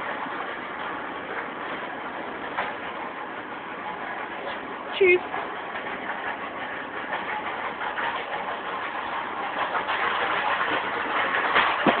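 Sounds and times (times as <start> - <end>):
mechanical running noise: 0.0 - 12.0.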